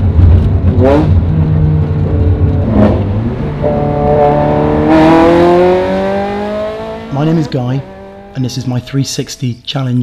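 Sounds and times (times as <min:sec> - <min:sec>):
race car engine revving: 0:00.0 - 0:08.8.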